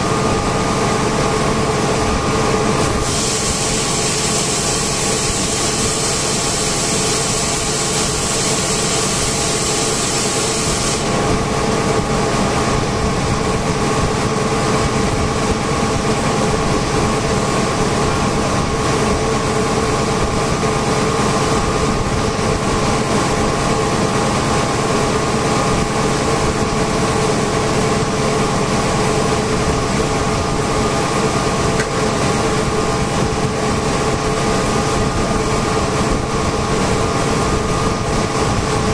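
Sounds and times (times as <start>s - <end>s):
industrial machinery drone: 0.0s - 38.9s.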